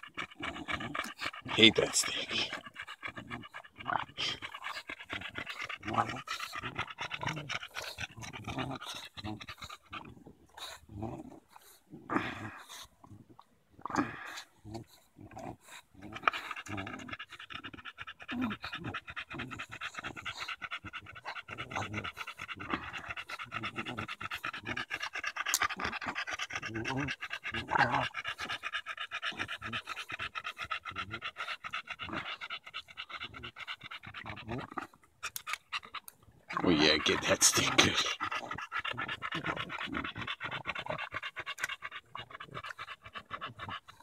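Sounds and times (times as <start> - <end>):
dog panting hard: 0.0 - 10.9, 14.3 - 36.0, 36.6 - 44.0.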